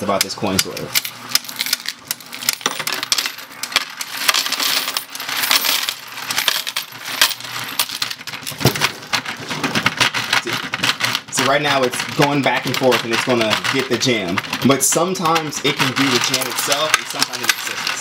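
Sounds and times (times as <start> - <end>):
coins clattering: 0.6 - 18.0.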